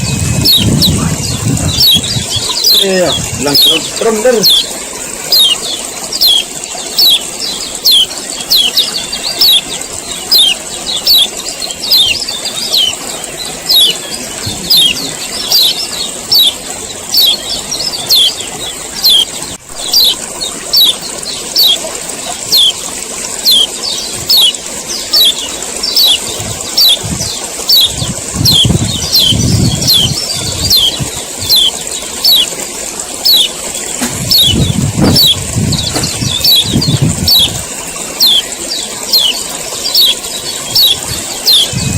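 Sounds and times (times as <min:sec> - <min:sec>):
bird chirping calls: 0:00.0 - 0:41.9.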